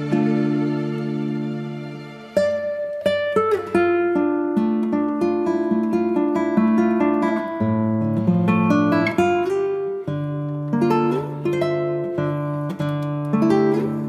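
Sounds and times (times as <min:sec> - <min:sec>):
plucked acoustic guitar melody: 0:00.0 - 0:14.0.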